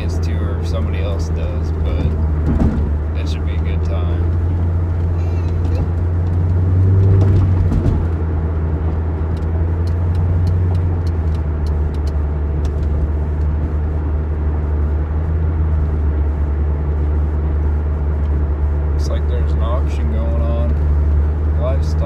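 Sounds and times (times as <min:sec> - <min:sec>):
car engine drone: 0:00.0 - 0:22.0
road noise inside car: 0:00.0 - 0:22.0.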